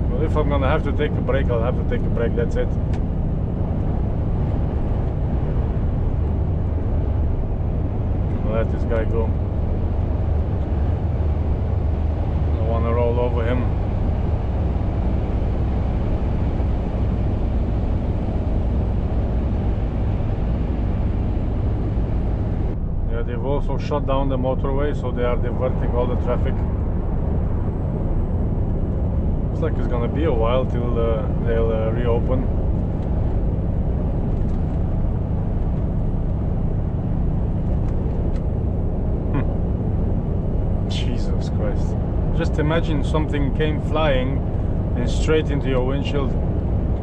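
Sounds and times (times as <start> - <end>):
truck engine and road noise: 0.0 - 47.0.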